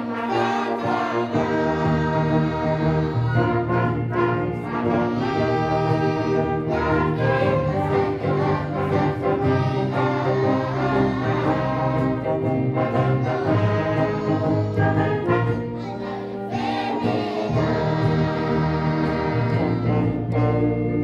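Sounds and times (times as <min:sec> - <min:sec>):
choir singing: 0:00.0 - 0:20.7
brass sustained chords: 0:00.0 - 0:21.0.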